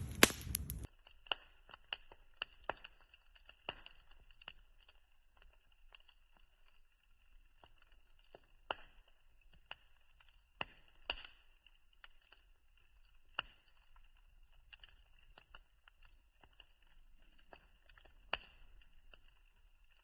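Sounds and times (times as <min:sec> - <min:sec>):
campfire crackling: 0:00.0 - 0:20.0
sharp snaps and pops: 0:00.0 - 0:20.0.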